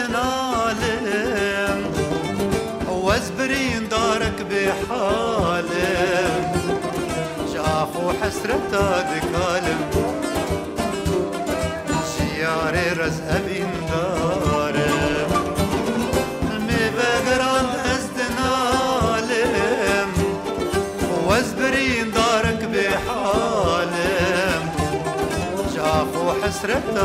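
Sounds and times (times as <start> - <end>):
man singing folk song: 0.0 - 27.0
plucked lute: 0.0 - 27.0.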